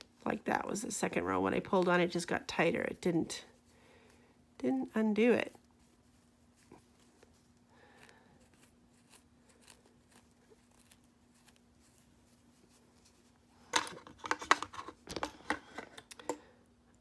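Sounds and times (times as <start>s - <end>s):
hands rustling yarn: 0.0s - 15.6s
faint steady hum: 0.0s - 17.0s.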